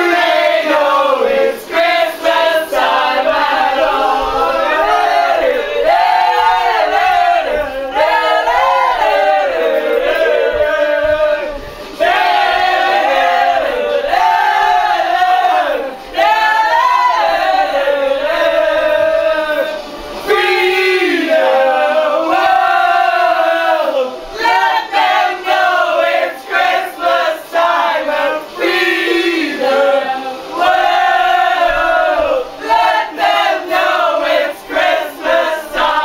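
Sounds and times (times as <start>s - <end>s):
crowd singing a chorus: 0.0s - 36.0s.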